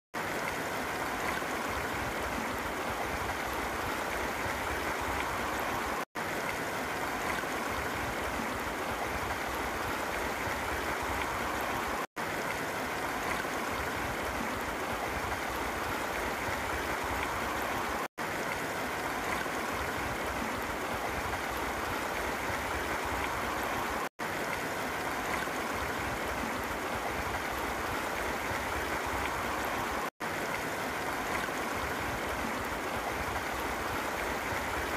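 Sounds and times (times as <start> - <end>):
creek rushing over rocks: 0.2 - 34.9.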